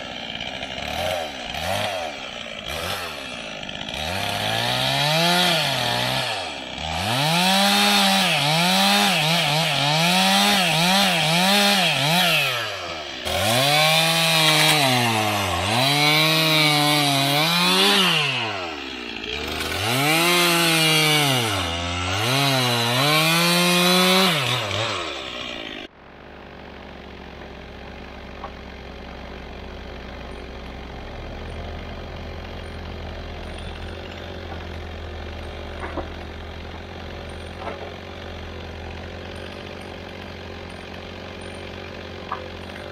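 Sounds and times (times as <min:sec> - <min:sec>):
chainsaw cutting logs: 0:00.0 - 0:42.9
chainsaw engine idling: 0:00.0 - 0:42.9.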